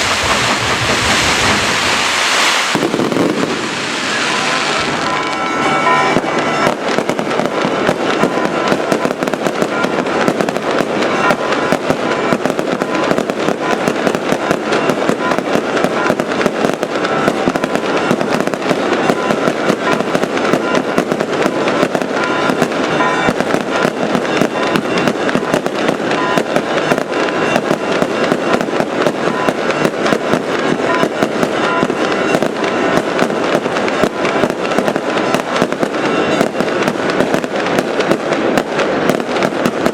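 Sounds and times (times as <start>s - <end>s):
fireworks crackles and bangs: 0.0s - 39.9s.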